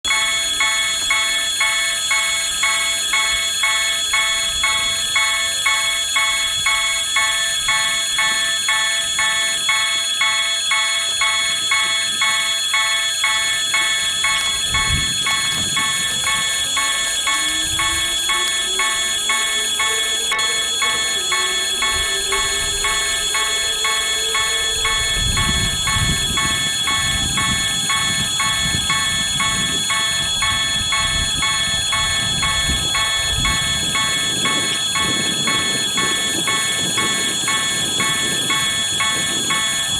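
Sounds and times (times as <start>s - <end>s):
level crossing warning bell: 0.0s - 39.9s
steady high tone: 0.0s - 39.9s.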